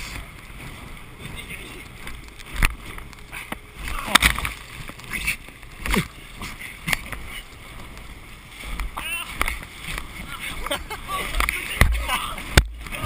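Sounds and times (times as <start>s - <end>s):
tube slapping on waves: 0.0s - 13.0s
water rushing and spraying: 0.0s - 13.0s.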